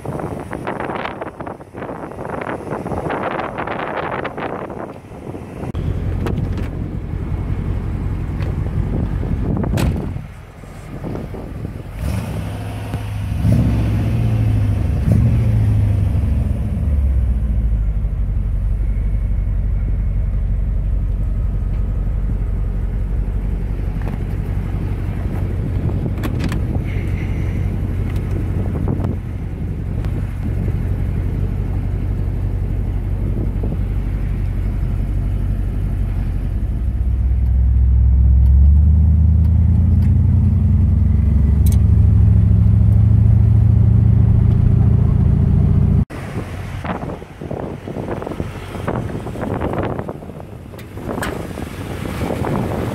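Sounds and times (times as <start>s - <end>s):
car engine low rumble: 0.0s - 52.9s.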